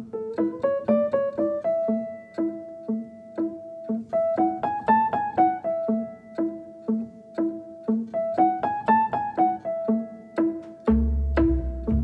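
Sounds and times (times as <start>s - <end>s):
light piano background music: 0.0s - 12.0s.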